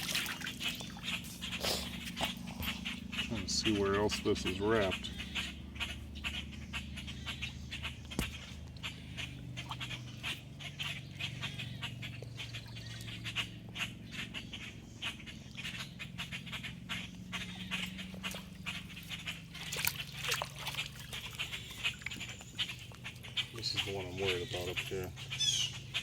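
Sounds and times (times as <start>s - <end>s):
grackles chipping and squawking: 0.0s - 26.0s
low steady hum: 0.0s - 26.0s.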